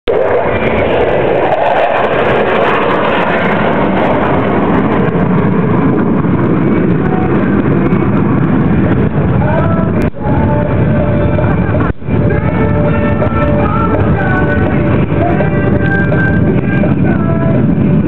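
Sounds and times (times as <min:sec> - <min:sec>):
faint rising whines: 0:00.1 - 0:18.0
jet engines flying past: 0:00.1 - 0:18.0.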